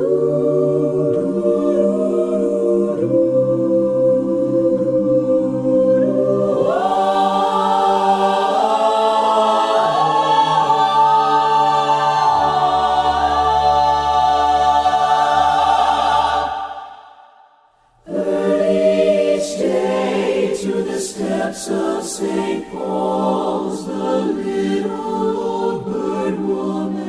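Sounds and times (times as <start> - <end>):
choir singing sustained chords: 0.0 - 27.0.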